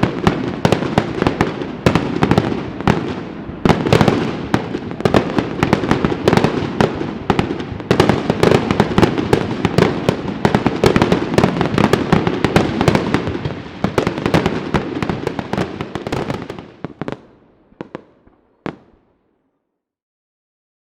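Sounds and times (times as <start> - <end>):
firecrackers exploding: 0.0 - 19.1.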